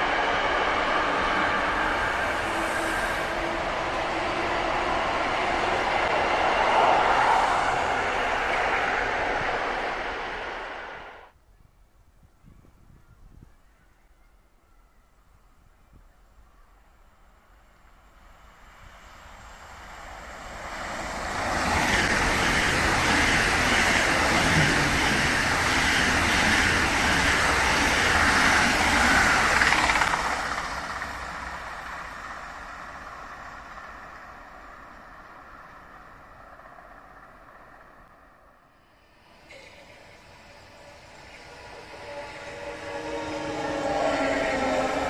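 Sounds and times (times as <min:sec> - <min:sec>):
high-speed train passing: 0:00.0 - 0:11.4, 0:16.6 - 0:45.0.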